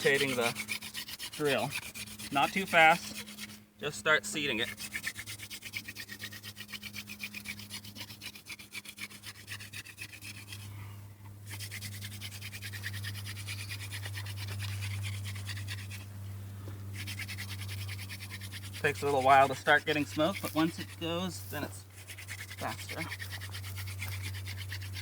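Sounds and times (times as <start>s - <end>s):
wood grinding on wood: 0.0s - 3.6s, 4.2s - 10.7s, 11.5s - 16.1s, 16.9s - 25.0s.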